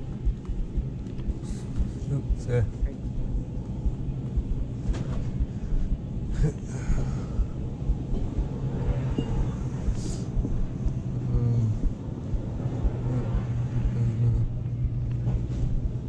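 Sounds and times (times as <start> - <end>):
low store hum: 0.0 - 16.0.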